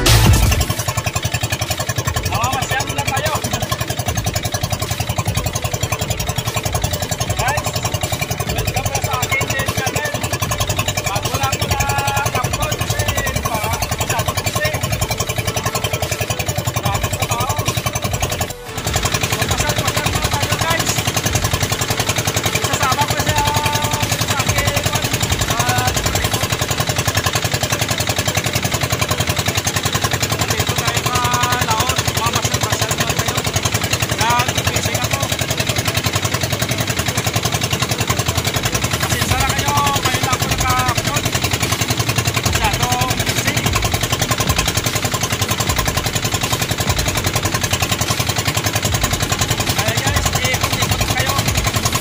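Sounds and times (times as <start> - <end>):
boat engine chugging: 0.0 - 52.0.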